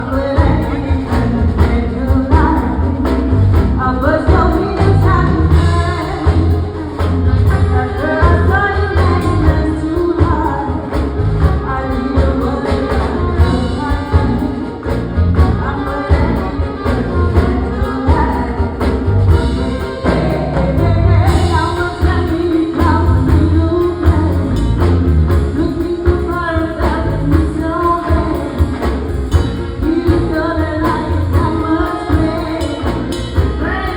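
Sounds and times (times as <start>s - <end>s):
live band playing: 0.0s - 33.9s
person singing: 0.0s - 33.9s.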